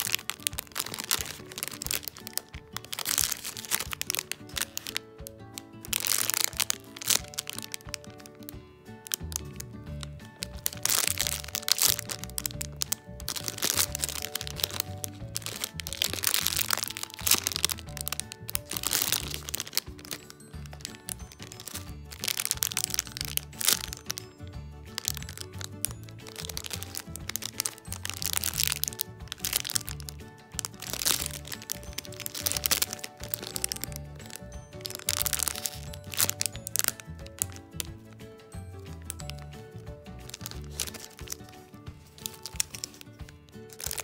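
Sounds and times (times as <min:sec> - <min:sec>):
background music: 0:00.0 - 0:44.0
plastic bags crinkling: 0:00.0 - 0:44.0.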